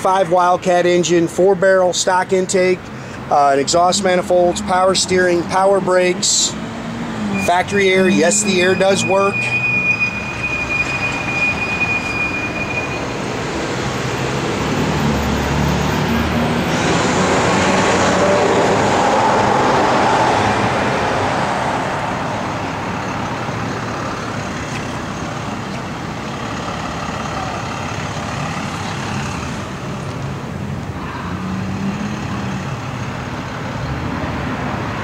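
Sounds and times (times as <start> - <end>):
vehicle passing: 3.0 - 10.8, 13.1 - 35.0.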